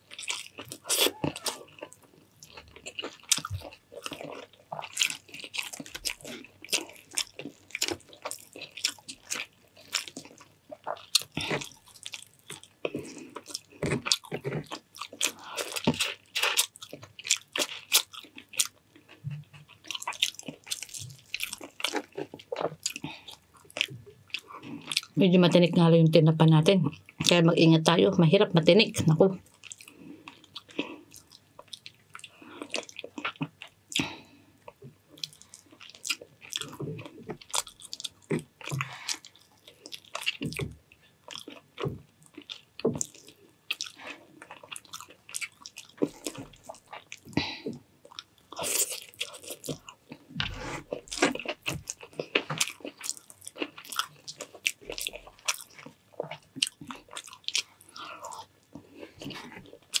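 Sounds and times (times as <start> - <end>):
person chewing food: 0.0 - 25.2, 29.0 - 60.0.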